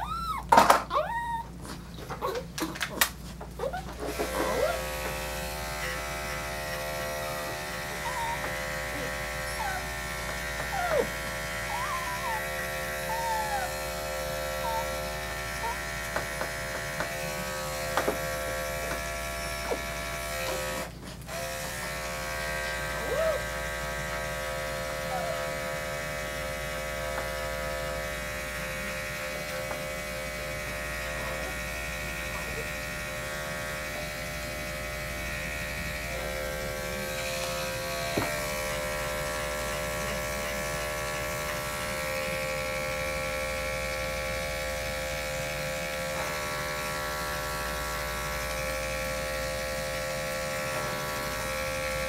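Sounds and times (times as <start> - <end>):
electric clipper humming: 2.9 - 52.0.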